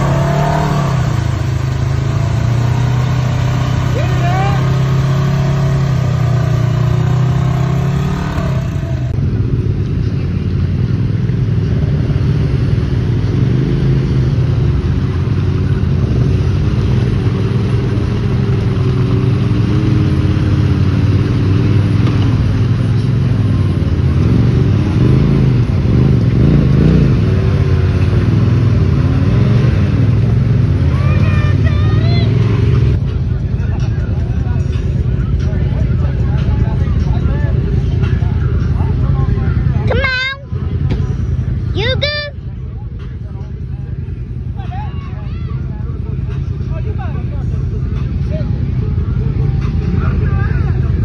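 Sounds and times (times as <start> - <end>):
utv engines revving: 0.0 - 51.0.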